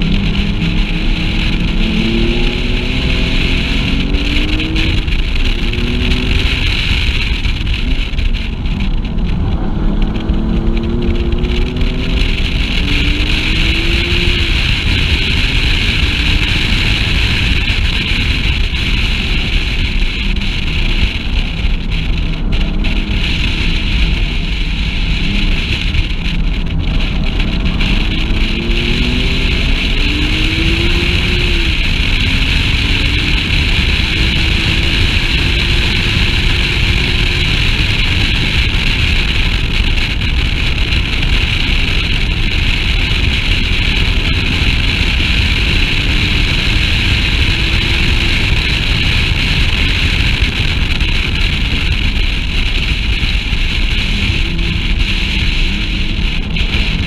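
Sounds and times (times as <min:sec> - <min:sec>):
sports car engine accelerating: 0:00.0 - 0:57.0.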